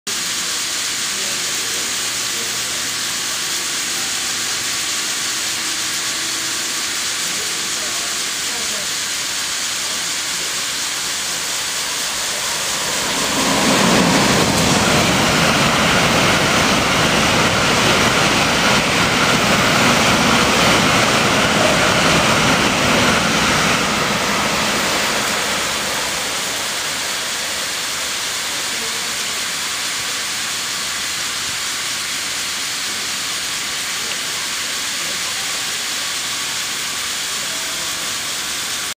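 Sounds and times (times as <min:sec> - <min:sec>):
high-speed train rumble: 0:00.1 - 0:38.9
sprinklers hissing: 0:00.1 - 0:38.9.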